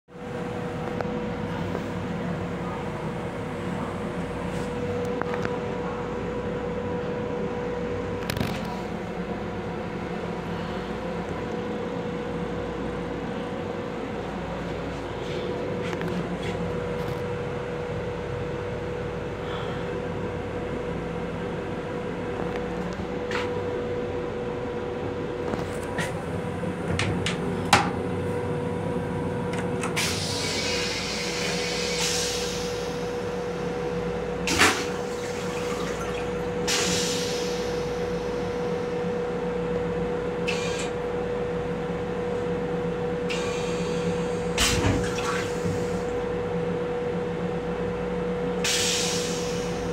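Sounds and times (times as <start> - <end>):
steady train hum: 0.1 - 49.9.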